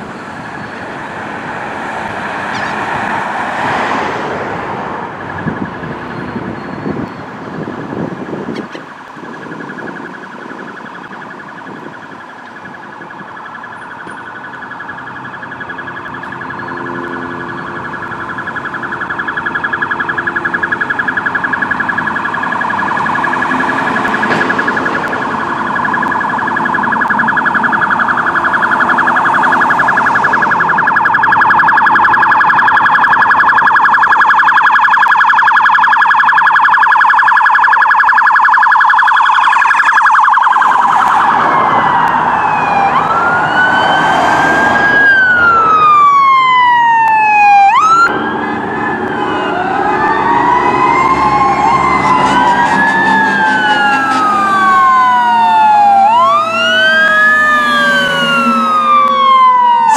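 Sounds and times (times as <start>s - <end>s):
pulsing two-tone emergency sirens: 0.0s - 59.9s
siren winding up: 5.3s - 59.9s.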